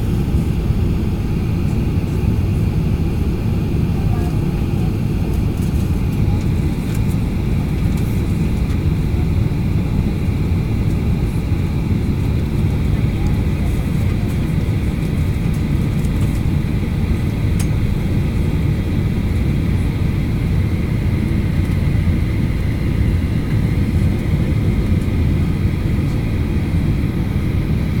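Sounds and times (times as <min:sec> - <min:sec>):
faint jet engine whine: 0:00.0 - 0:28.0
jet engines low rumble: 0:00.0 - 0:28.0.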